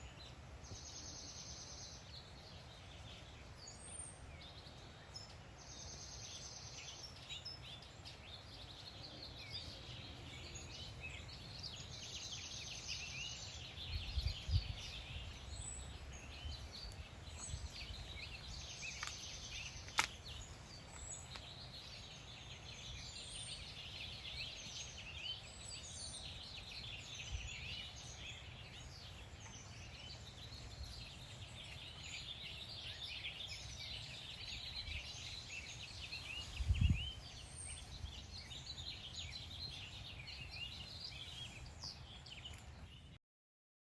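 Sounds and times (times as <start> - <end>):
birds chirping and calling: 2.5 - 43.2.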